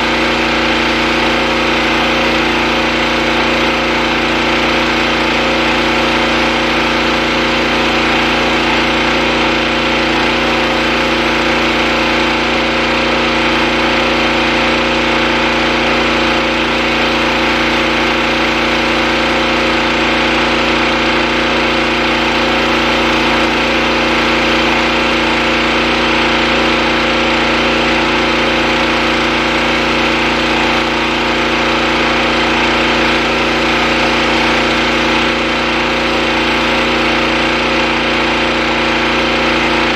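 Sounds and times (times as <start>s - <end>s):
pressure washer engine running: 0.0s - 39.9s
water spraying on concrete: 0.0s - 39.9s.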